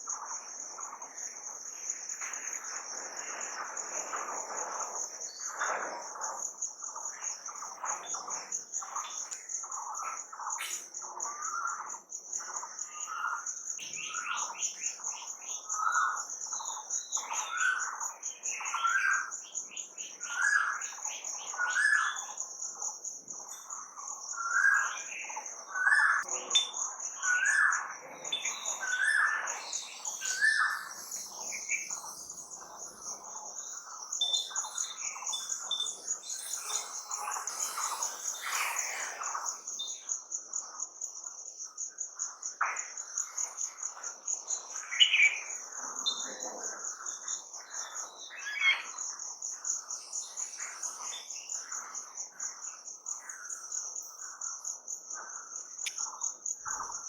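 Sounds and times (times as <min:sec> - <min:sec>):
soft chirps of other birds: 0:00.0 - 0:57.0.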